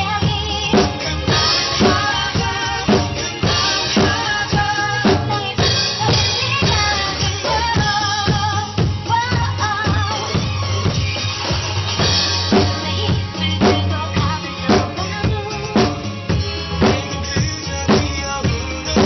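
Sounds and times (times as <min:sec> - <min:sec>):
drum kit steady beat: 0:00.0 - 0:19.0
recorded pop song: 0:00.0 - 0:19.0.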